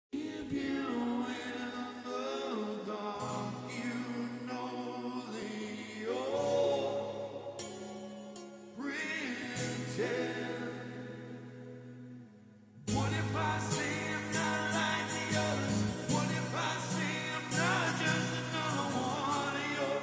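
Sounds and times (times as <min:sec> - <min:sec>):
man singing with vibrato: 0:00.1 - 0:12.2, 0:12.8 - 0:20.0.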